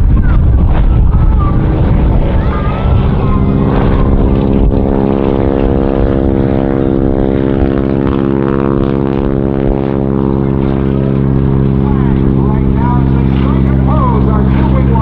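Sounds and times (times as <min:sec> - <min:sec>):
biplane engine and propeller: 0:00.0 - 0:15.0.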